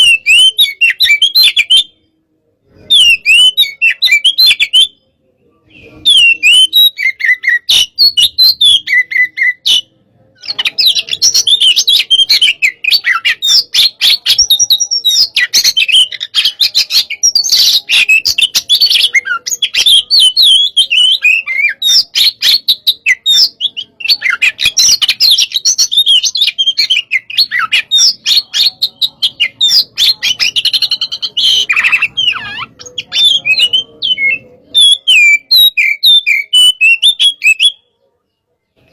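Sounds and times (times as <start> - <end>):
bird singing fast varied song: 5.8 - 38.0.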